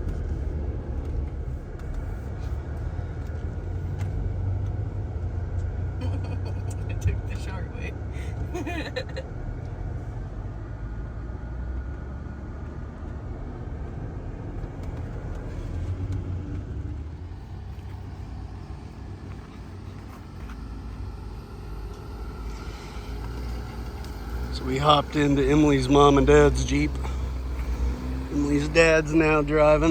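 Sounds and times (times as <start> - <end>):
vehicle engine and road rumble: 0.0 - 29.9.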